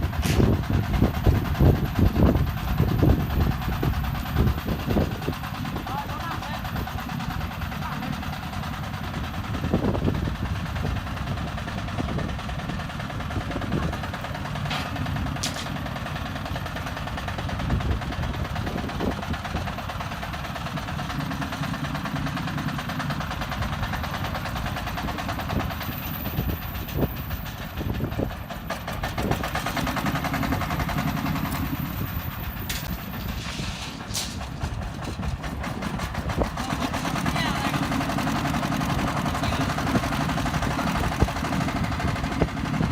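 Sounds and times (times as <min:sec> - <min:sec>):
concrete mixer engine running: 0:00.0 - 0:42.9.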